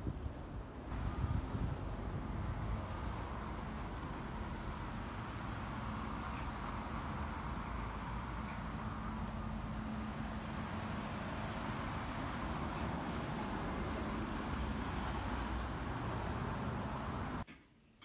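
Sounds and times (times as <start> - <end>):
road traffic passing: 0.0 - 17.5.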